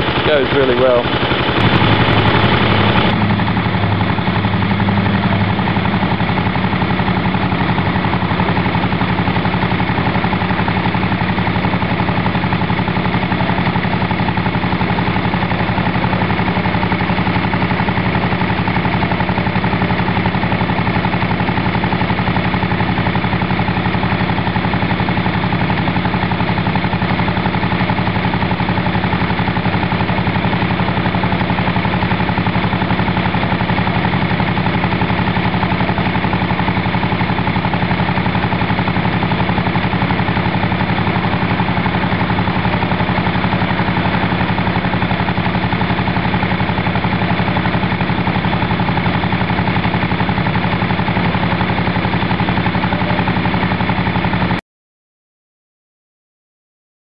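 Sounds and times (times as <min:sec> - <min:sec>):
single-cylinder engine running: 0:00.0 - 0:54.6.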